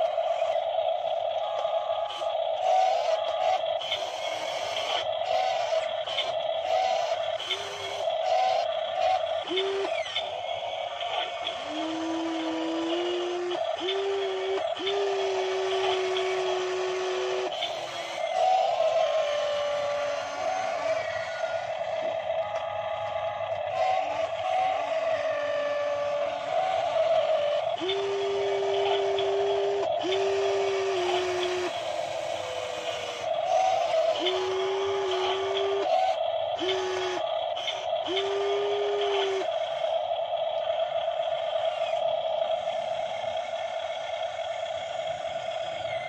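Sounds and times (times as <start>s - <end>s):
electric motors whining: 0.0s - 46.0s
steady motor hum: 0.0s - 46.0s.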